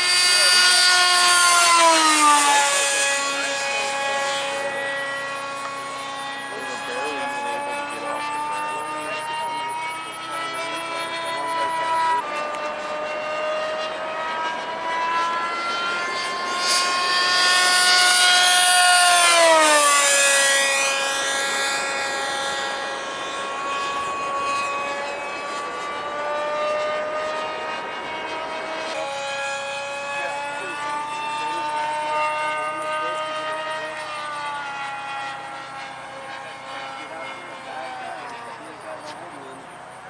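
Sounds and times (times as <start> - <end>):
model jet whining past: 0.0 - 40.0.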